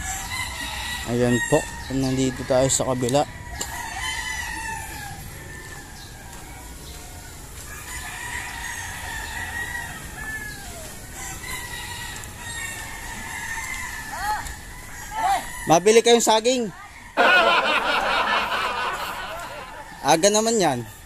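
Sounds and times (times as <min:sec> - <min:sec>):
distant roosters crowing: 0:00.0 - 0:21.0.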